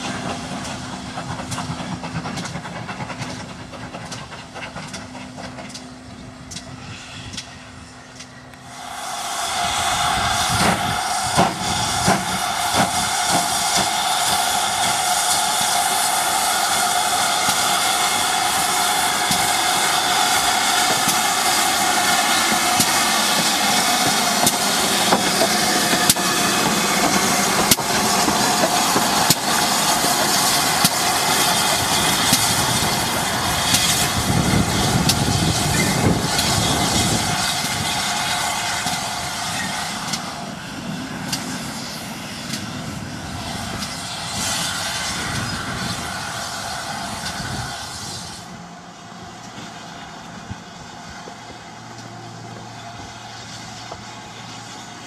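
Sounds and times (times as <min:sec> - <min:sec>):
steam hissing: 0:00.0 - 0:55.0.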